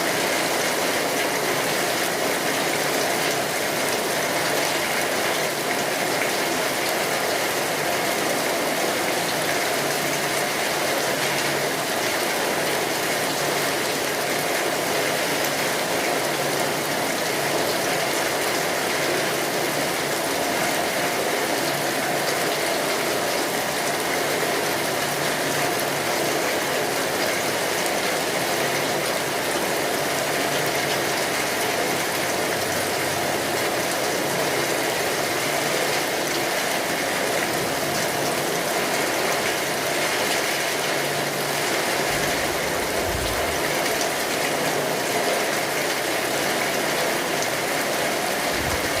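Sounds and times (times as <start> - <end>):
rain on a tin roof: 0.0 - 49.0.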